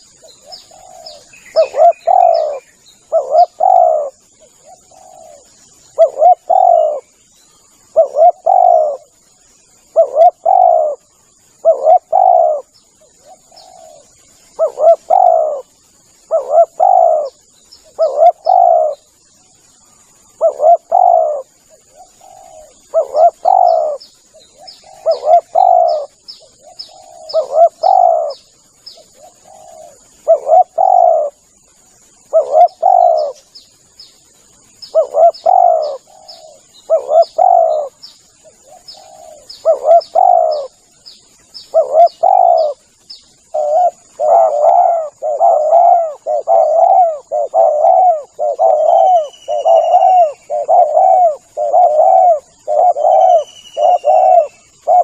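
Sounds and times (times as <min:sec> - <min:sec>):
dove cooing: 0:00.0 - 0:07.2, 0:07.8 - 0:09.2, 0:09.9 - 0:19.1, 0:20.1 - 0:28.4, 0:29.0 - 0:31.4, 0:32.2 - 0:33.5, 0:34.8 - 0:40.8, 0:41.6 - 0:55.0
small bird chirping: 0:00.0 - 0:55.0.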